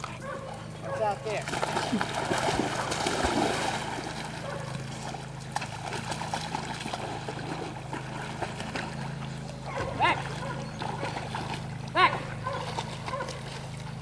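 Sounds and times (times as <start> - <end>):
dogs splashing in water: 0.0 - 14.0.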